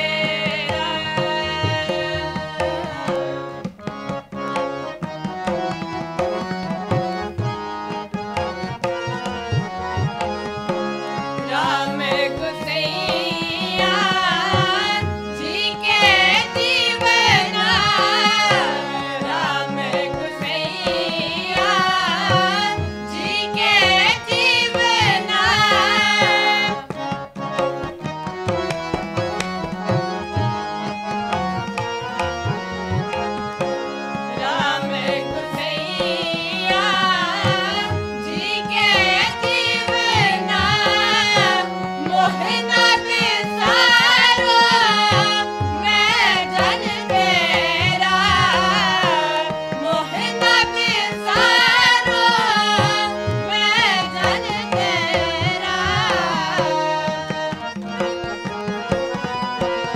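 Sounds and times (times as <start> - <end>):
voices singing ornamented phrases: 0.0 - 3.6, 11.2 - 27.2, 29.6 - 58.8
harmoniums playing melody: 0.0 - 59.9
tabla rhythm: 0.0 - 59.9.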